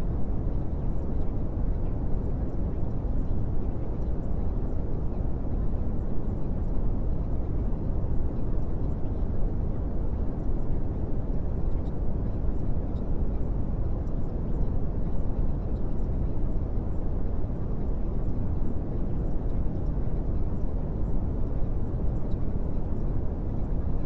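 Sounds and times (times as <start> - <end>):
steady low rumbling noise: 0.0 - 24.0.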